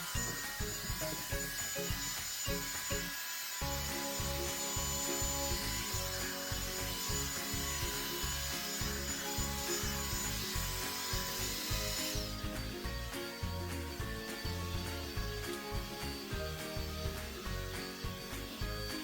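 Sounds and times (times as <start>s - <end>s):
background music: 0.0s - 19.0s
hot-air brush hair dryer running: 0.0s - 19.0s.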